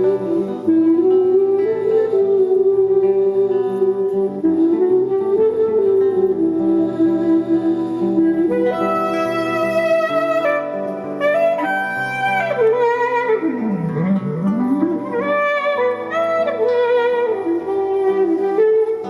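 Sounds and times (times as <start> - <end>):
sliding melody of long notes: 0.0 - 19.0.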